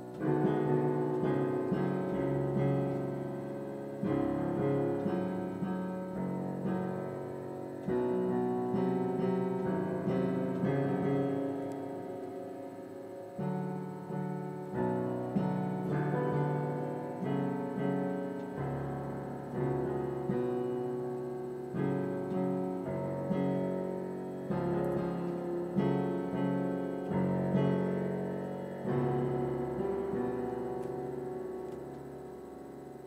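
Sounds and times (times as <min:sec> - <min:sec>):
solo piano chords and notes: 0:00.0 - 0:33.0.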